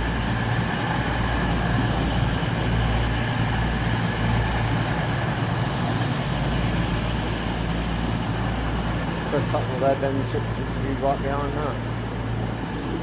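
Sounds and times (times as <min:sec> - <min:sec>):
diesel train engines idling: 0:00.0 - 0:13.0.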